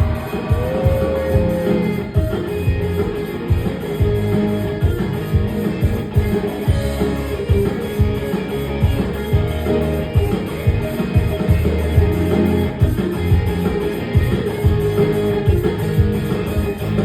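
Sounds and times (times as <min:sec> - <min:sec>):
guitar: 0:00.0 - 0:17.0
live band music: 0:00.0 - 0:17.0.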